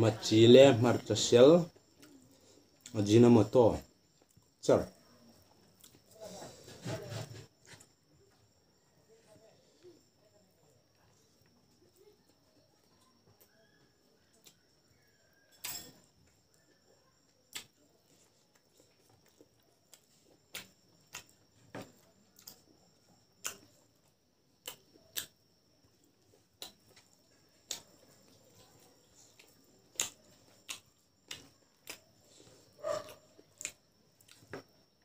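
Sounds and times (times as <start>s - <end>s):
quiet chewing: 1.7s - 3.0s, 3.9s - 35.0s.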